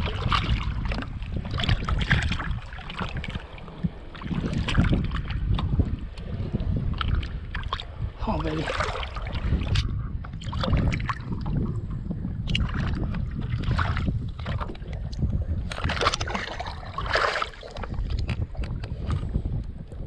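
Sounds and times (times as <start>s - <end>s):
water splashing around kayak: 0.0s - 20.0s
wind buffeting microphone: 0.0s - 20.0s.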